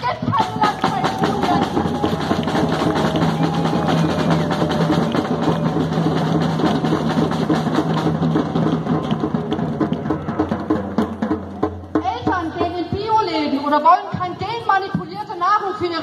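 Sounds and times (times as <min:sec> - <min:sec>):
drums beaten in fast rhythm: 0:00.0 - 0:15.8.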